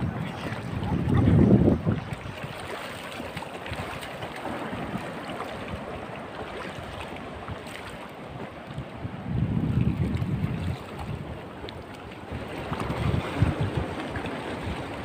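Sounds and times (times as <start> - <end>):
seawater sloshing and lapping: 0.0 - 15.0
wind rumbling on microphone: 0.0 - 15.0.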